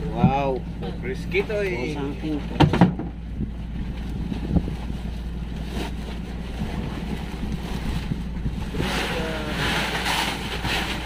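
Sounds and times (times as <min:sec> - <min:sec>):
boat engine droning: 0:00.0 - 0:11.0
water noise: 0:00.0 - 0:11.0
wind buffeting microphone: 0:00.0 - 0:11.0.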